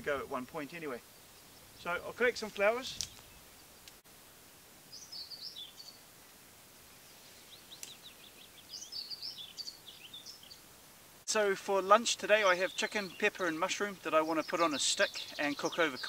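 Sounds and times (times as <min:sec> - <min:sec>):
songbird chirping: 0:00.0 - 0:04.0, 0:04.8 - 0:16.0
faint outdoor hiss: 0:00.0 - 0:16.0.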